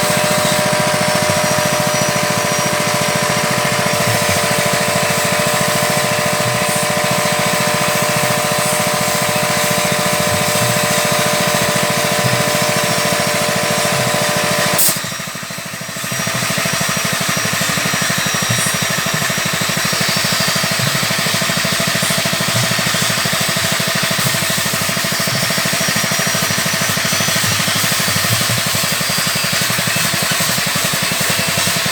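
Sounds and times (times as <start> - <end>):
machine humming and whining: 0.0 - 31.9.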